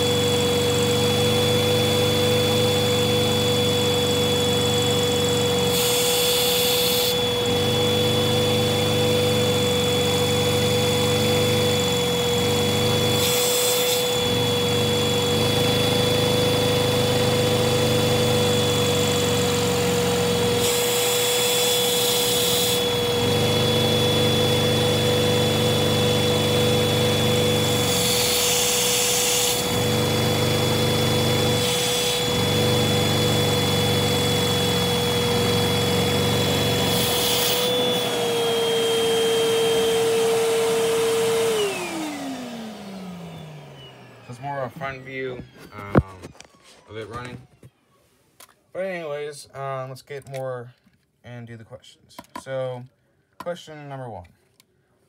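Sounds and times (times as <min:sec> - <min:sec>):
vacuum cleaner whining: 0:00.0 - 0:47.9.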